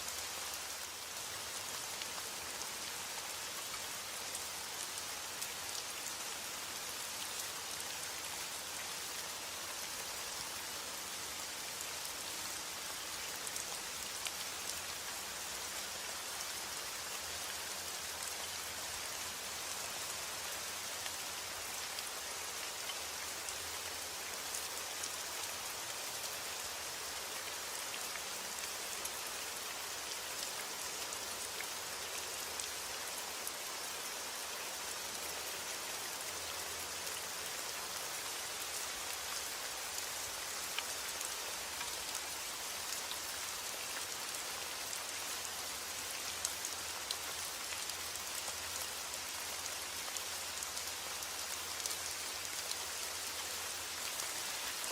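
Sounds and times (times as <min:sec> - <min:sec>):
heavy rain on a roof: 0:00.0 - 0:54.9.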